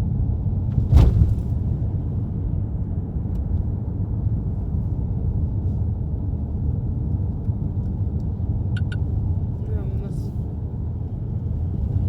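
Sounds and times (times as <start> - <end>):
car driving rumble inside cabin: 0.0 - 12.0.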